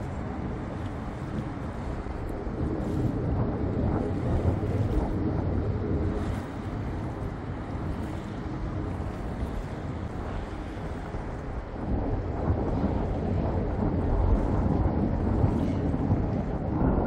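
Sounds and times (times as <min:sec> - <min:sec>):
boat and water rumble: 0:00.0 - 0:17.0
wind buffeting microphone: 0:00.0 - 0:17.0.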